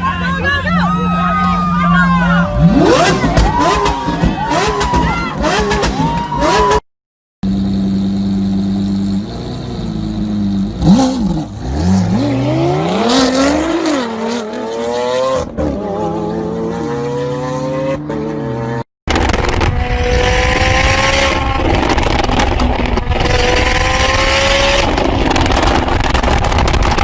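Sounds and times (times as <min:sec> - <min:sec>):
car engine revving loud exhaust: 0:02.4 - 0:06.8, 0:07.5 - 0:27.0.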